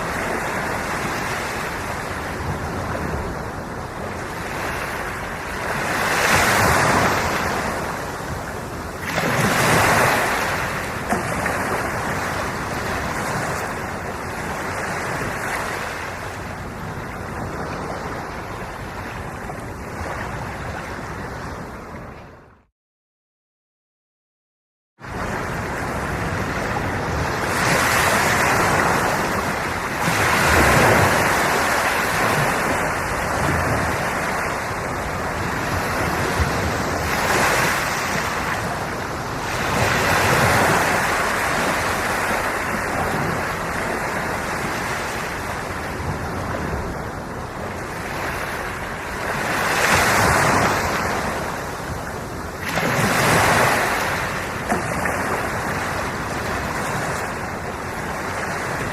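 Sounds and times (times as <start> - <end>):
sea waves breaking on shore: 0.0 - 22.6, 25.0 - 58.9.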